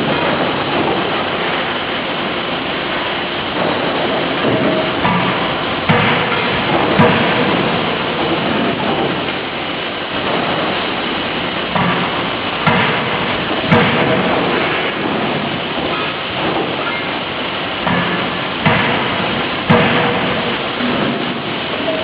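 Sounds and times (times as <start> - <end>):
steady loud din: 0.0 - 22.0
forging hammer heavy blows: 3.5 - 9.5, 10.1 - 22.0.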